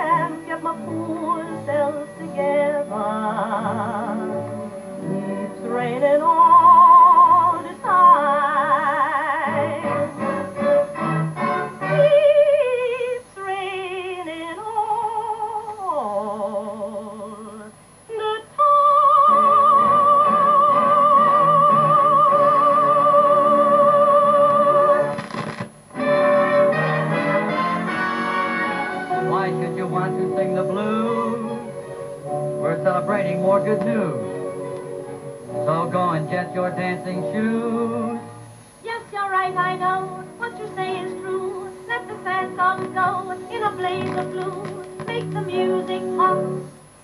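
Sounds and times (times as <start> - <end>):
woman singing with vibrato: 0.0 - 10.4, 11.4 - 25.4, 28.3 - 46.8
musical accompaniment: 0.0 - 14.0, 19.0 - 47.0.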